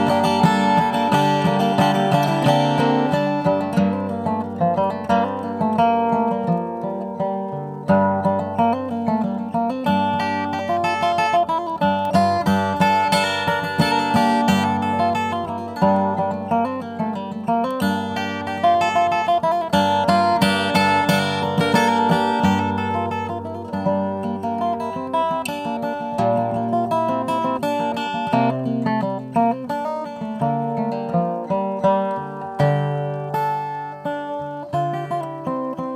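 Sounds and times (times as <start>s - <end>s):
acoustic guitar chords: 0.0s - 35.9s.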